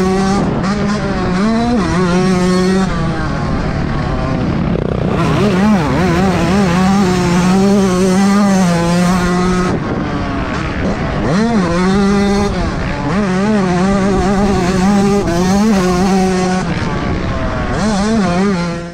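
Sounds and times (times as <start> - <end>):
two-stroke motorcycle engine revving: 0.0 - 18.9.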